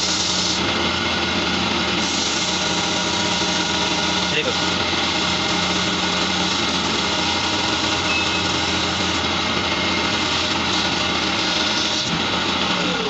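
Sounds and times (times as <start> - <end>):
hand sanding spinning wood: 0.0 - 13.0
wood lathe running: 0.0 - 13.0.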